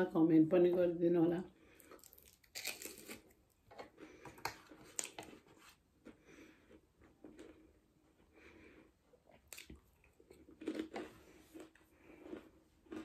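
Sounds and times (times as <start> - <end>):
person chewing and biting food: 1.8 - 8.3, 9.1 - 13.0.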